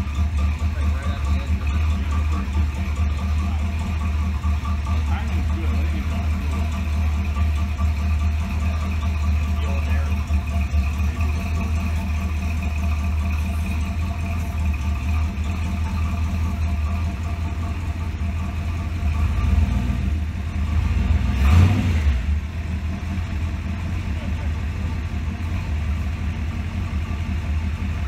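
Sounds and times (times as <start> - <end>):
engine idling: 0.0 - 28.0
engine revs surging: 0.0 - 28.0.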